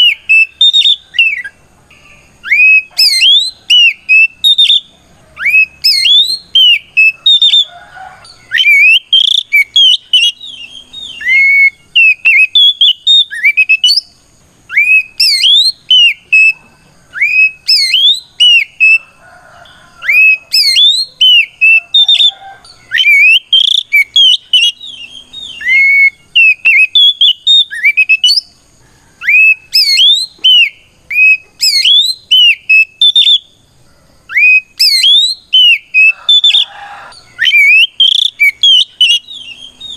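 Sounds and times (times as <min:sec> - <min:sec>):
bird singing sweeping whistles: 0:00.0 - 0:01.6, 0:02.4 - 0:07.7, 0:08.3 - 0:19.0, 0:20.0 - 0:28.6, 0:29.2 - 0:33.6, 0:34.3 - 0:39.9.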